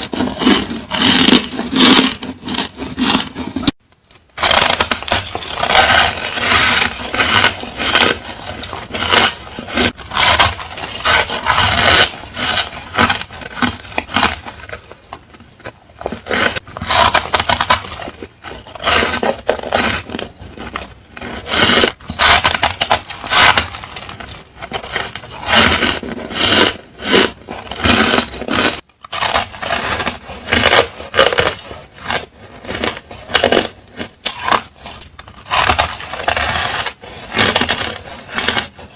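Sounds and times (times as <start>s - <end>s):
ice crunching between teeth: 0.0s - 38.9s.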